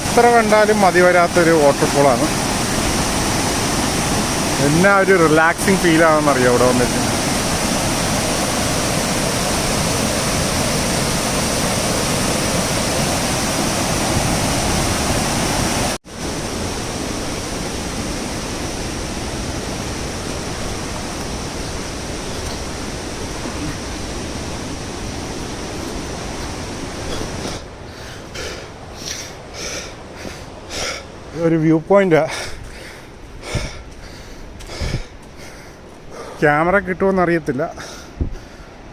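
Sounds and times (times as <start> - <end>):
waterfall roaring: 0.0 - 38.1.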